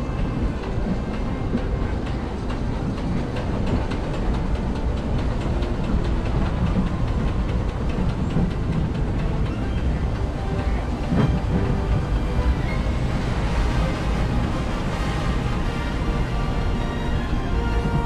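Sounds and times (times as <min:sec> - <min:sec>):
train cars rumbling on track: 0:00.0 - 0:18.0.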